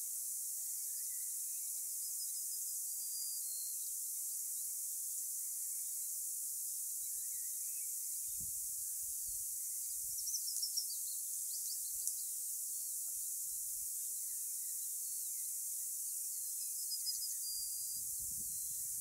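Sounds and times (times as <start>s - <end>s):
small birds chirping: 0.0s - 19.0s
steady high hiss: 0.0s - 19.0s.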